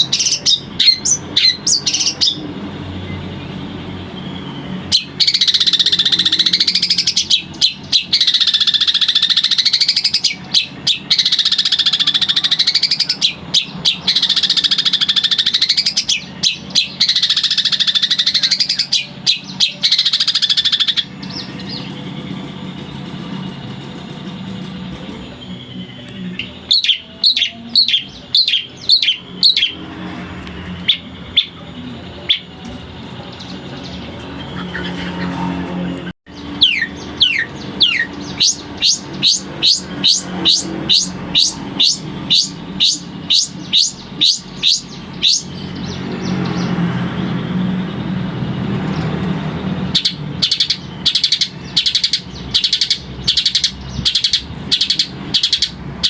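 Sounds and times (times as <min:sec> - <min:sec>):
shrike singing buzzy phrases: 0:00.0 - 0:56.0.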